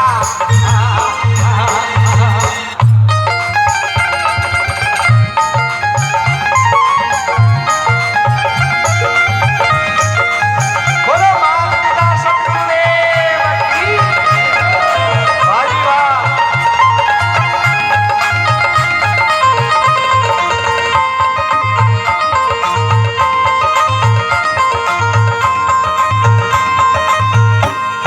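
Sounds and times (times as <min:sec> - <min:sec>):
repeating high ticks: 0:00.0 - 0:28.0.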